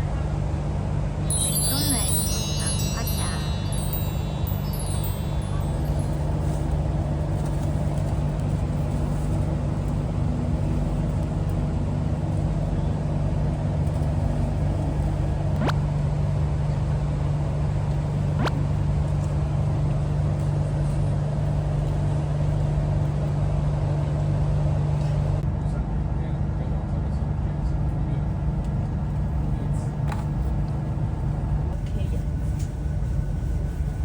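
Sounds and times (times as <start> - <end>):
train cabin rumble and hum: 0.0 - 34.0.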